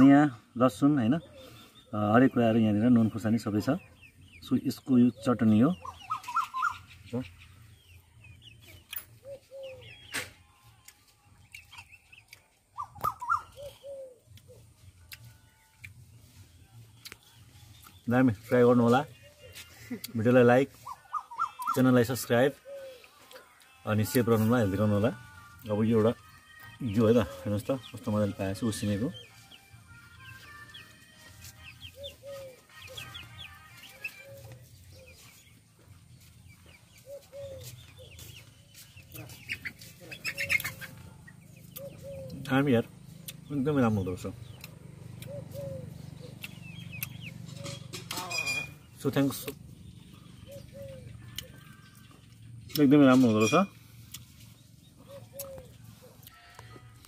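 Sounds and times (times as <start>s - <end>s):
chickens clucking: 0.0s - 57.0s
small birds chirping: 0.0s - 57.0s.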